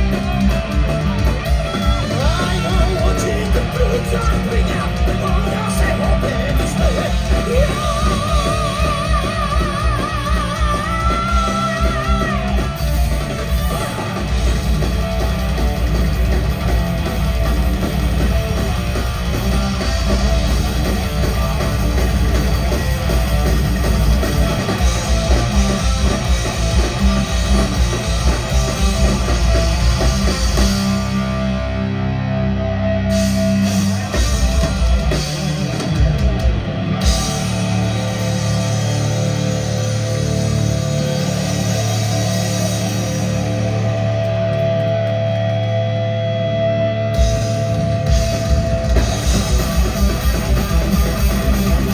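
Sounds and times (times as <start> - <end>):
distorted electric guitar chords: 0.0 - 51.9
rock band playing: 0.0 - 51.9.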